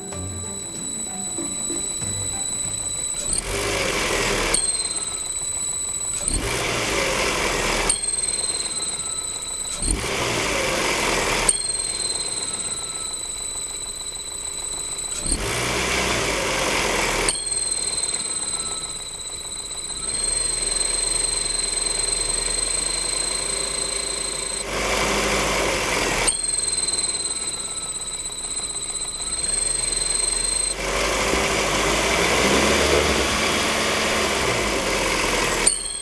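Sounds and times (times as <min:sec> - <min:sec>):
high steady whistle: 0:00.0 - 0:15.6, 0:17.0 - 0:24.7, 0:26.2 - 0:30.8, 0:31.4 - 0:36.0
car engine running: 0:00.0 - 0:36.0.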